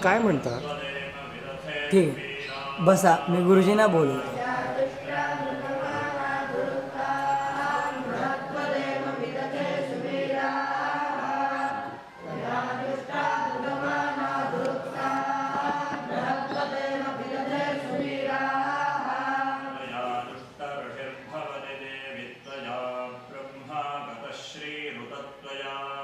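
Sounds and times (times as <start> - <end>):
group chanting: 0.0 - 26.0.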